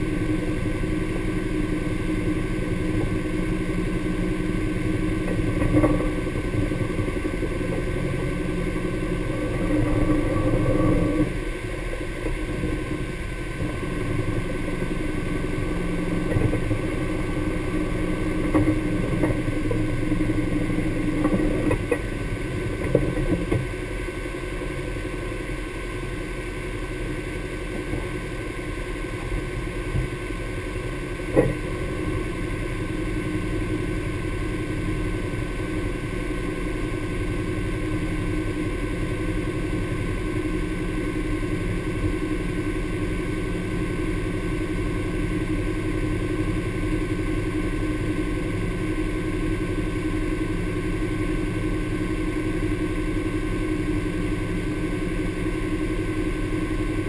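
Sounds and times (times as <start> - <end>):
engine running at low speed: 0.0 - 57.0.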